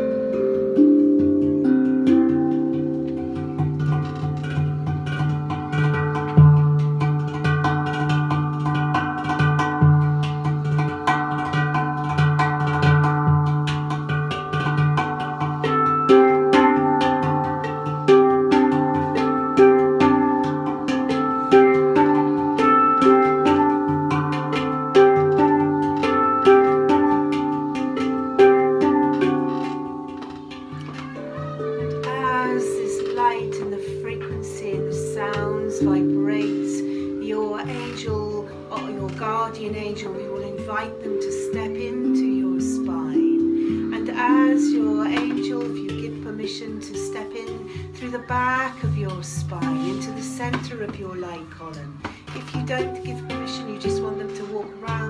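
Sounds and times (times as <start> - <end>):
ringing metallic struck notes: 0.0 - 55.0.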